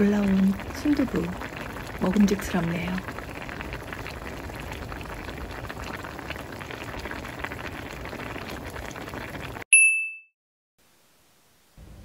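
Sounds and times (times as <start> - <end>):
stew bubbling and popping: 0.0 - 9.6.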